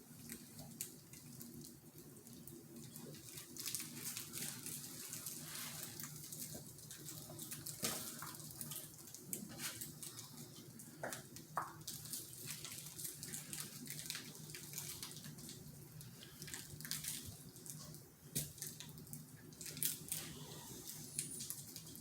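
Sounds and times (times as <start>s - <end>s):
puppies scuffling and rustling: 0.1s - 22.0s.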